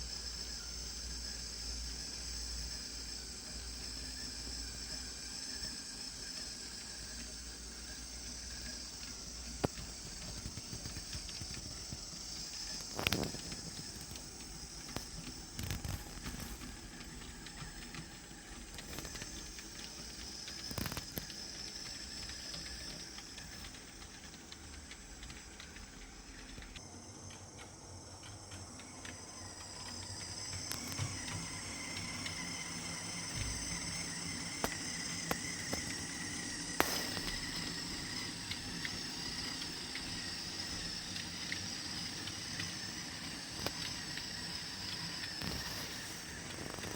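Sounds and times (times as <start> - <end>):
model train motor whirring: 0.0 - 46.9
wheel clicks on rail joints: 8.5 - 46.9.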